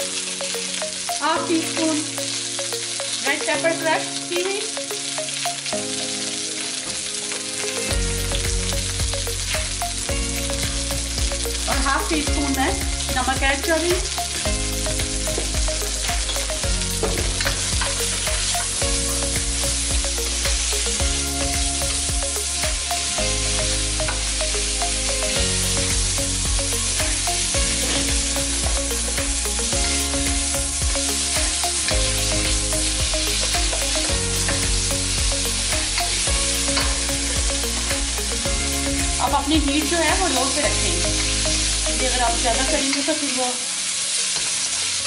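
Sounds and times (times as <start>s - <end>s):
peppers sizzling in hot oil: 0.0s - 45.0s.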